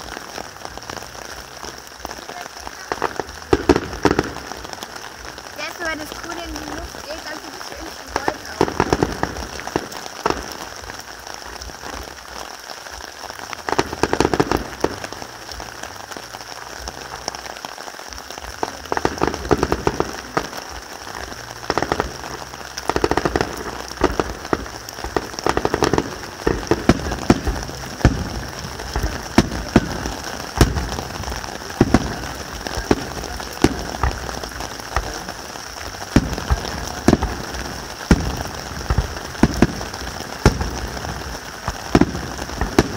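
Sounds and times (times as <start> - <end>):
firework bangs: 0.0 - 42.9
firework crackling hiss: 0.0 - 42.9.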